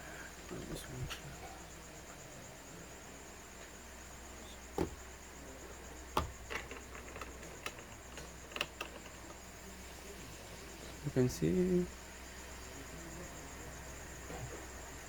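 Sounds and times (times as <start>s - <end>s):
faint high-pitched electronic whine: 0.0s - 15.0s.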